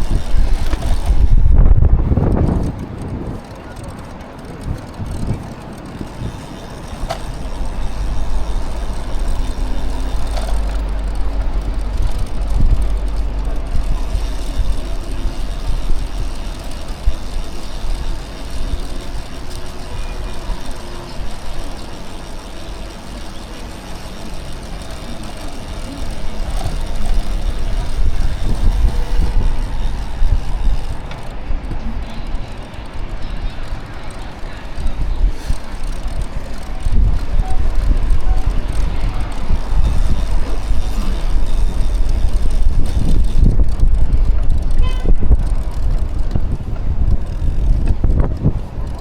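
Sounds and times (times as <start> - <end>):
wind rumble on microphone: 0.0 - 21.6, 25.8 - 49.0
city street traffic: 0.0 - 49.0.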